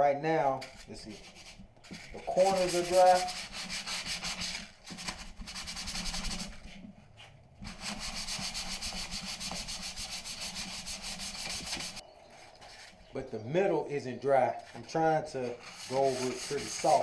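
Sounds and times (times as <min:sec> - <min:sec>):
sandpaper rubbing back and forth: 0:00.7 - 0:06.8, 0:07.6 - 0:13.0, 0:14.5 - 0:17.0.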